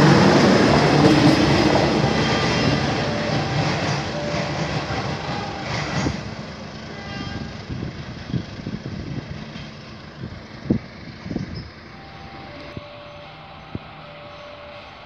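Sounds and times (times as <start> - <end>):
passenger train rumble: 0.0 - 15.0.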